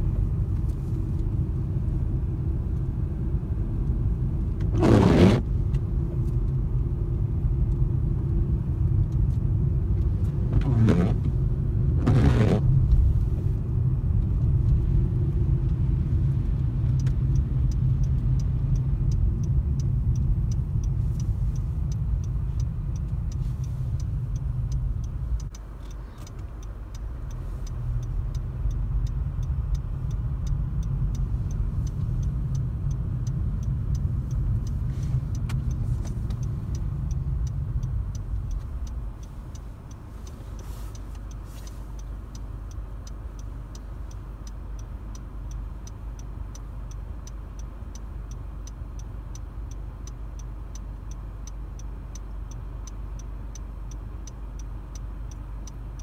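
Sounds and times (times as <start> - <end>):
car engine: 0.0 - 56.0
turn signal ticking: 0.0 - 56.0
tyres on snowy road: 0.0 - 56.0.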